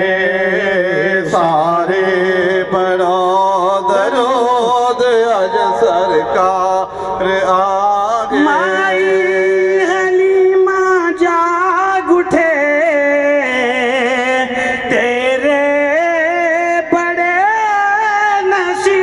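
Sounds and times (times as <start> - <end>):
person singing devotional song: 0.0 - 19.0.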